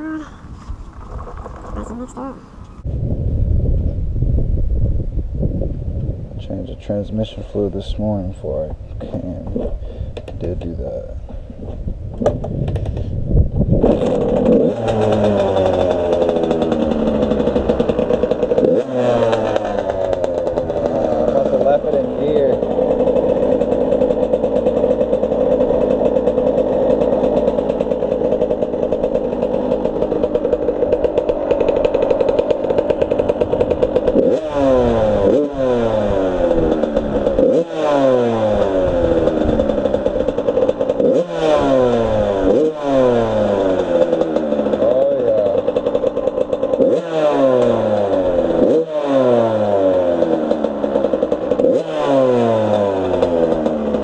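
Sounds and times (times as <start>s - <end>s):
dirt bike engine idling and revving: 5.4s - 54.0s.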